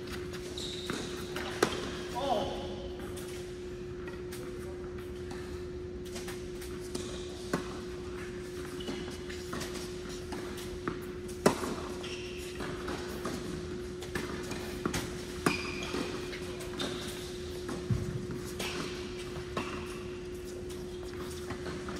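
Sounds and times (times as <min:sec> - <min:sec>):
steady hall hum: 0:00.0 - 0:21.9.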